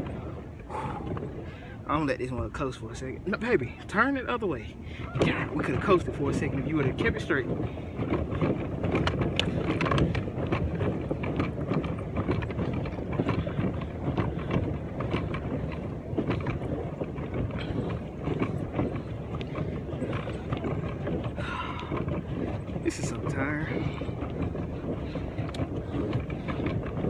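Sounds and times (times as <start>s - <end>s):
pedal boat churning and knocking: 0.0s - 27.0s
wind buffeting microphone: 0.0s - 27.0s.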